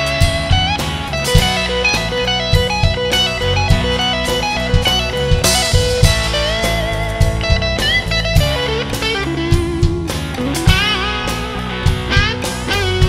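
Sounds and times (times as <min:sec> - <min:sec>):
rock band playing: 0:00.0 - 0:13.0
sharp percussive hits: 0:00.0 - 0:13.0.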